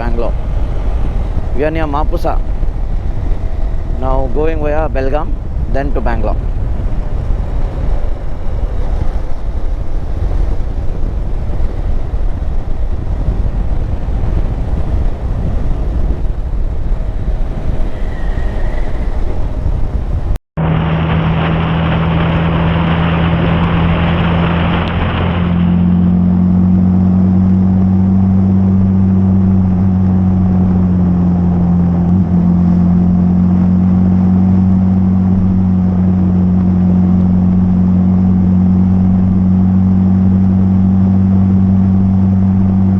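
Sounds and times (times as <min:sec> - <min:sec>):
motorcycle engine droning: 0:00.0 - 0:42.9
wind and road noise: 0:00.0 - 0:42.9.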